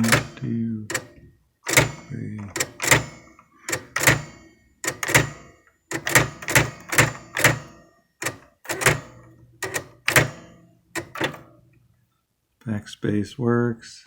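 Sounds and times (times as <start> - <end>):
electronic typewriter clacking: 0.0 - 11.5.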